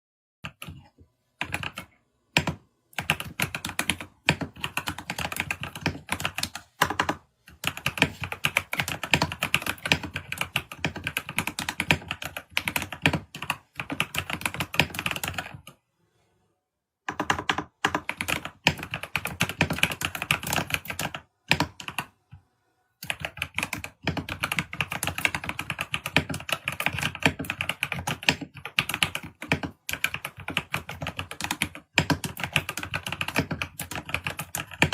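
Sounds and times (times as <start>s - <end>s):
computer keyboard typing: 0.4s - 15.8s, 17.1s - 22.3s, 23.0s - 34.9s.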